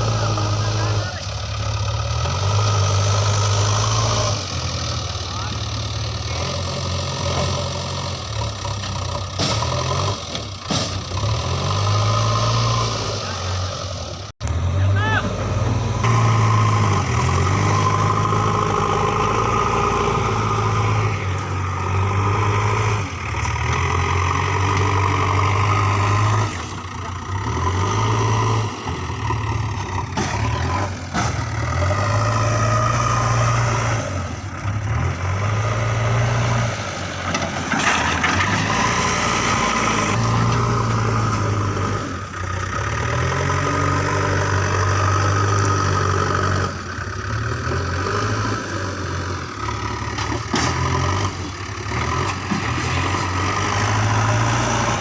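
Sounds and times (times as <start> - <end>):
backhoe diesel engine under load: 0.0 - 55.0.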